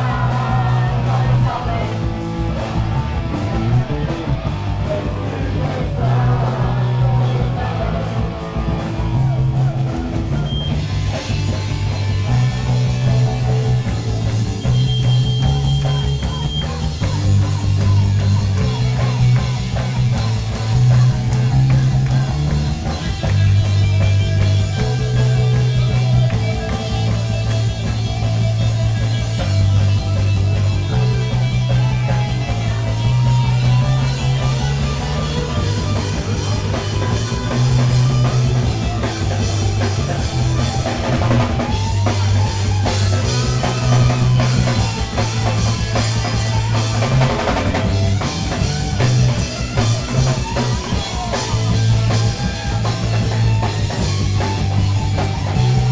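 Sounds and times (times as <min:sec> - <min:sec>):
bass line: 0:00.0 - 0:55.9
drum kit: 0:00.0 - 0:55.9
electric guitar: 0:00.0 - 0:55.9
punk rock band playing live: 0:00.0 - 0:55.9.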